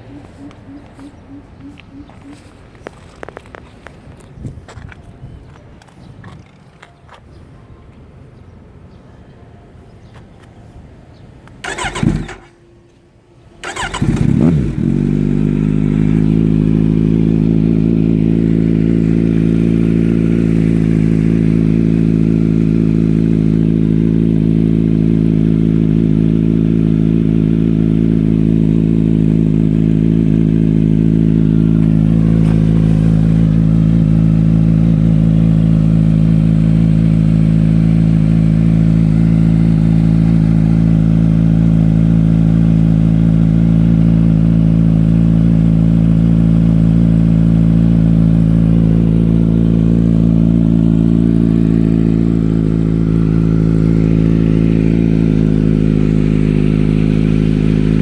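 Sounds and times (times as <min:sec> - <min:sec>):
motorcycle engine starting and idling: 0:11.5 - 0:58.0.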